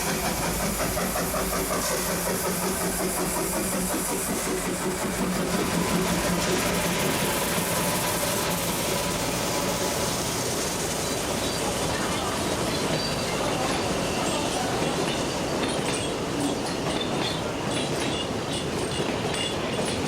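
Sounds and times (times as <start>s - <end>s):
steam hiss: 0.0s - 20.0s
train engine drone: 0.0s - 20.0s.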